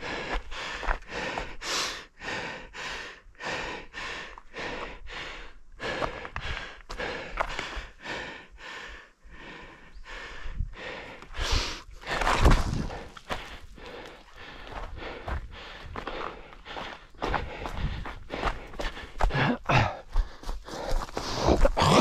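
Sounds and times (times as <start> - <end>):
runner breathing heavily: 0.0 - 22.0.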